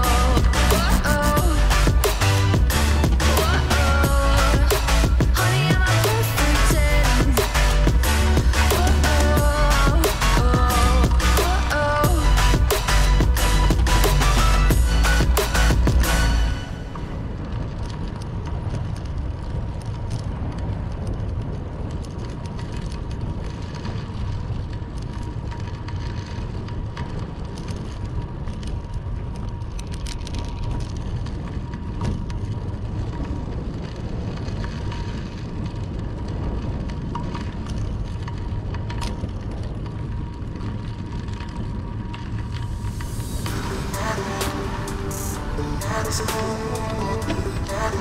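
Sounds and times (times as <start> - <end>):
bicycle tyre noise: 0.0 - 48.0
wind rumble on microphone: 0.0 - 48.0.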